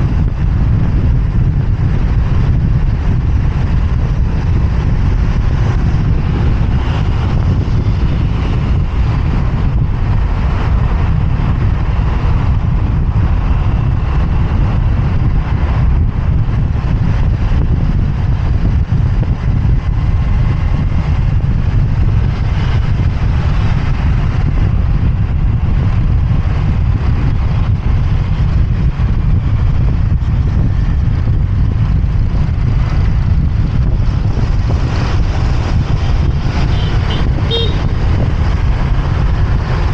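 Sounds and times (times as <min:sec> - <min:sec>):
motorbike running: 0:00.0 - 0:39.9
surrounding traffic: 0:00.0 - 0:39.9
wind buffeting microphone: 0:00.0 - 0:39.9.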